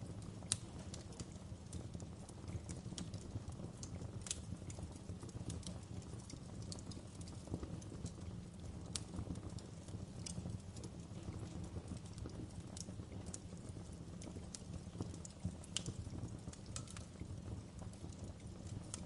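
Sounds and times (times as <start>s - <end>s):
sharp crackles and pops: 0.0s - 19.0s
wood fire burning: 0.0s - 19.0s.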